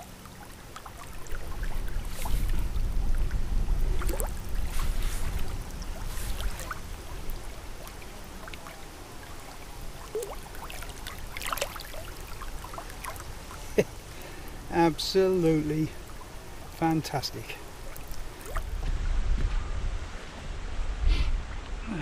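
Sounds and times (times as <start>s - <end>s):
water splashing and trickling: 0.0s - 18.9s.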